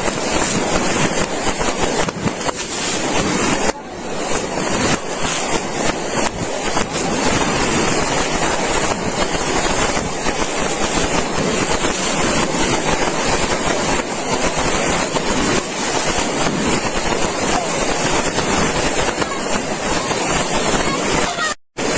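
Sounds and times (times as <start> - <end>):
firecrackers crackling: 0.0 - 21.9.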